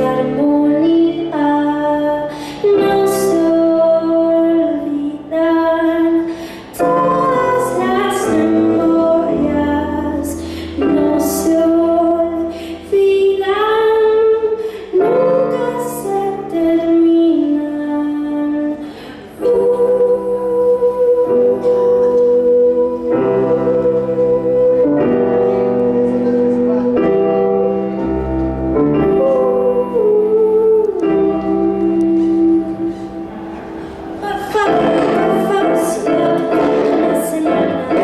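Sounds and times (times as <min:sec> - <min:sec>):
woman singing: 0:00.0 - 0:27.9, 0:29.0 - 0:33.2, 0:34.1 - 0:38.0
instrumental accompaniment: 0:00.0 - 0:38.0.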